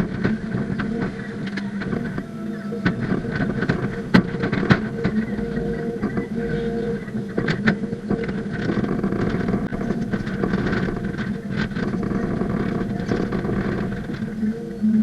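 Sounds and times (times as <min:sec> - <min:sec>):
excavator engine and hydraulic drone: 0:00.0 - 0:15.0.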